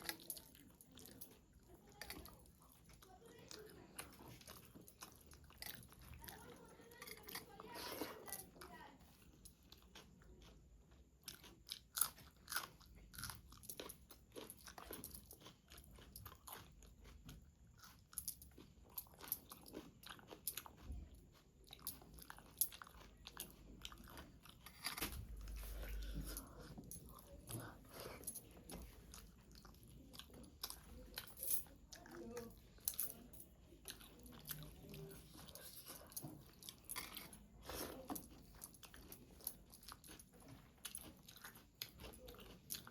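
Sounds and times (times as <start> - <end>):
person chewing and crunching: 0.0 - 42.9.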